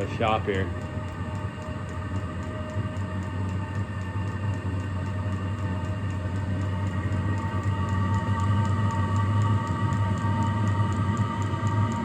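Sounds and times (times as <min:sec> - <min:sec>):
heater blower whirring: 0:00.0 - 0:12.0.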